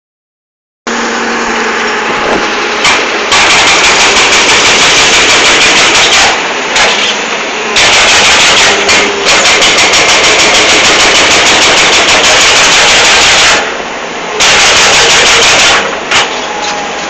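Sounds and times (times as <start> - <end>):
diesel engine running: 0.9 - 17.0
hydraulic breaker hammering rock: 2.1 - 13.8, 14.4 - 16.7.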